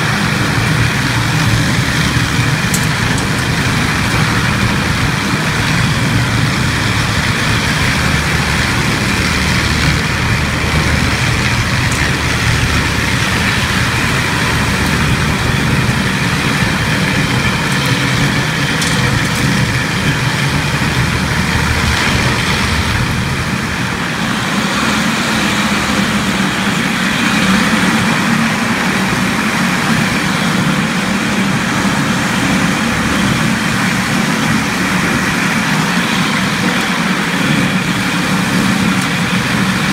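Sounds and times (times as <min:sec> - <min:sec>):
floor grinder running: 0:00.0 - 0:39.9.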